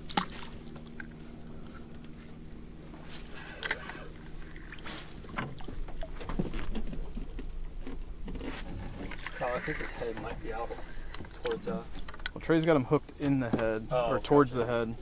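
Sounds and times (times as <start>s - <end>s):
steady high-pitched whine: 0.0s - 15.0s
water sloshing against hull: 0.0s - 15.0s.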